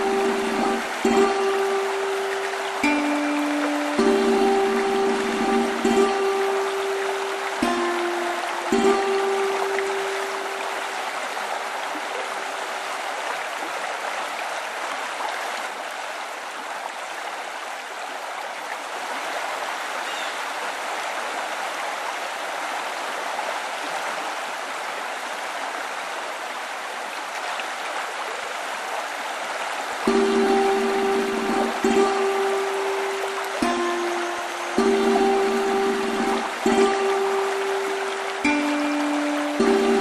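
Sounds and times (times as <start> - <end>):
river water pouring over weir: 0.0 - 40.0.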